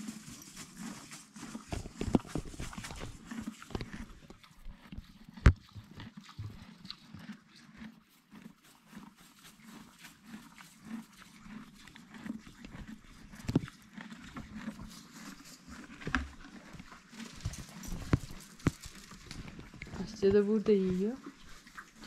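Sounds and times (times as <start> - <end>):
horse chewing feed: 0.0 - 22.0.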